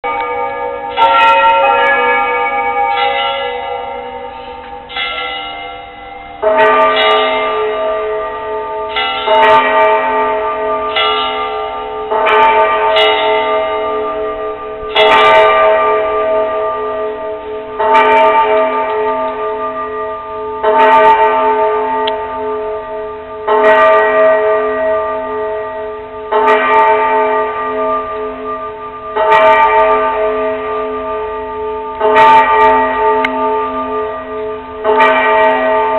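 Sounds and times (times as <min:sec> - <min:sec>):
differently pitched bells: 0:00.0 - 0:35.9
large bell tolling: 0:00.0 - 0:35.9.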